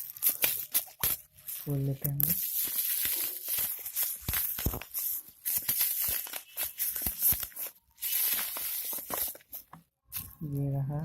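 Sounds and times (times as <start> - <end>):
cardboard packaging tearing: 0.0 - 10.4.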